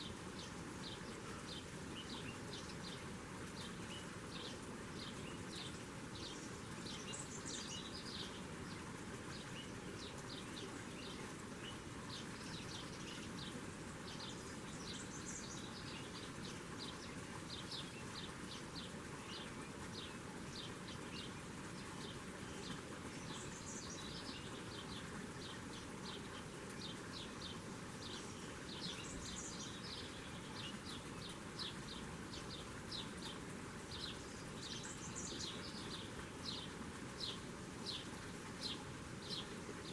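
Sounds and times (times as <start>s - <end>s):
songbird singing: 0.0s - 39.9s
steady outdoor hiss: 0.0s - 39.9s.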